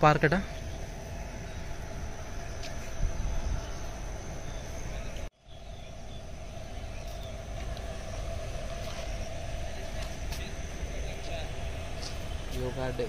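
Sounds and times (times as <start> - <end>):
low rumble: 0.0 - 13.0
mid-pitched hum: 0.0 - 13.0.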